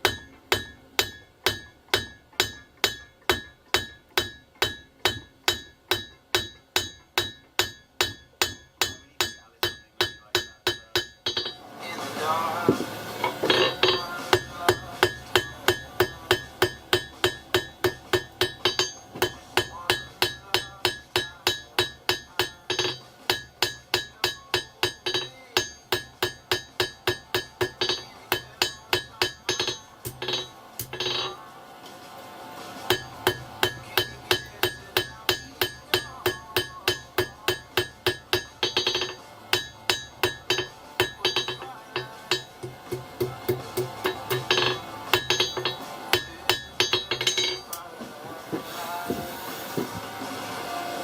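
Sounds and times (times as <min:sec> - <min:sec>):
hammer ringing on steel anvil: 0:00.0 - 0:11.6, 0:13.2 - 0:31.5, 0:32.8 - 0:47.8.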